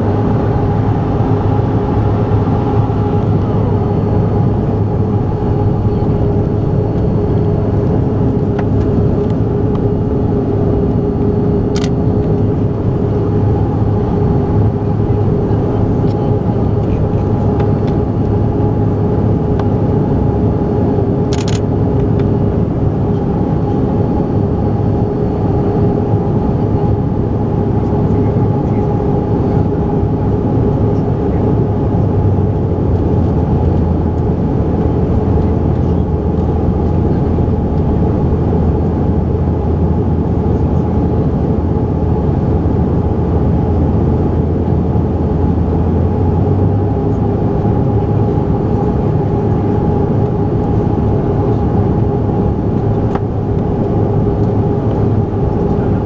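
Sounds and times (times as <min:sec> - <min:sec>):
jet cabin roar: 0:00.0 - 0:56.0.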